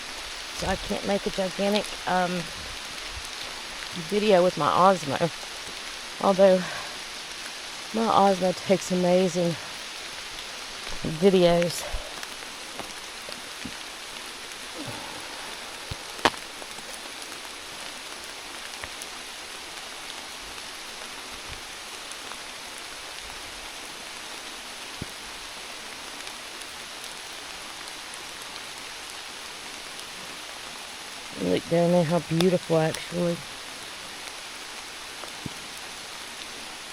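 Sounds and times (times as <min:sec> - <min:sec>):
rain patter: 0:00.0 - 0:36.9.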